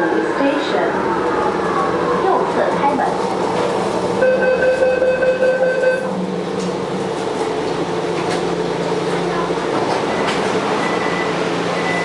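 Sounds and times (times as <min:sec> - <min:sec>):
metro train running: 0:00.0 - 0:12.0.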